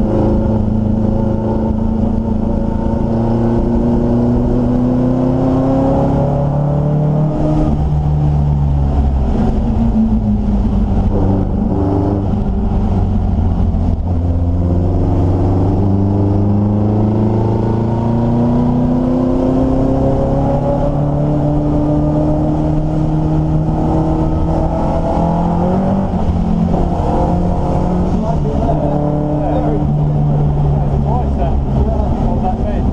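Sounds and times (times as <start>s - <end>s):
race car engine revving: 0.0s - 32.9s.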